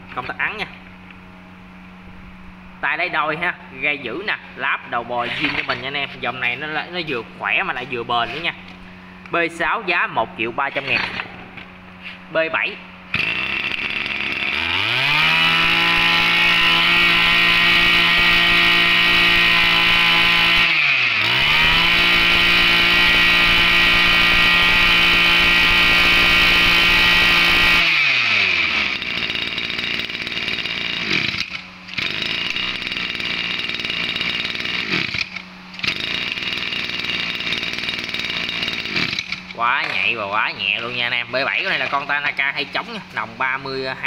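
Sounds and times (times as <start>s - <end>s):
brush cutter engine revving: 3.4s - 11.7s, 12.4s - 44.0s.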